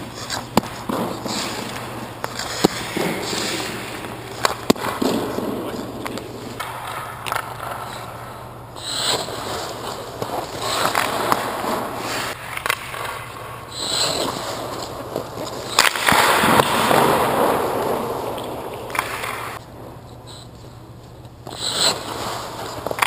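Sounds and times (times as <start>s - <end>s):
skates scraping on ice: 0.0s - 19.6s, 21.4s - 23.0s.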